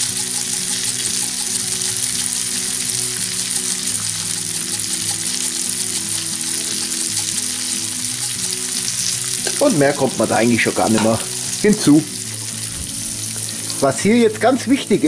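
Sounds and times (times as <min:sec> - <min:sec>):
fat sizzling in a pan: 0:00.0 - 0:15.0.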